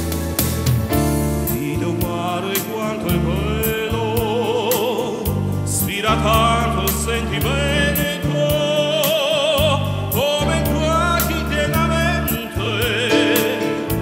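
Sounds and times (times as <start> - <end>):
keyboard melody with vibrato: 0.0 - 14.0
keyboard music with bass and beat: 0.0 - 14.0.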